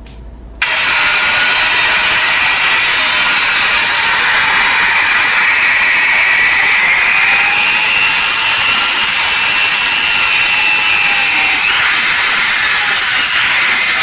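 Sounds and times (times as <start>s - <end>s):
power tool whining on metal: 0.6s - 14.0s.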